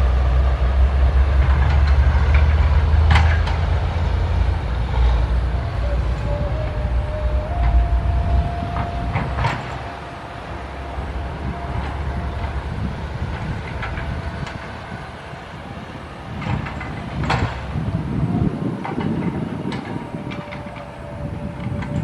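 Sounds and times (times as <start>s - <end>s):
excavator engine rumble: 0.0s - 22.0s.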